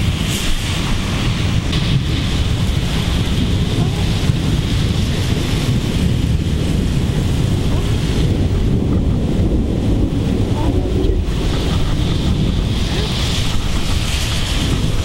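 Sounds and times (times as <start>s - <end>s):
heavy rain: 0.0s - 15.0s
wind buffeting microphone: 0.0s - 15.0s.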